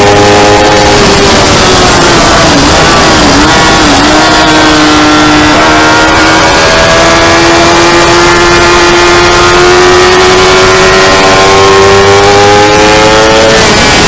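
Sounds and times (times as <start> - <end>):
motorcycle engine revving: 0.0 - 14.0
steady rushing noise: 0.0 - 14.0.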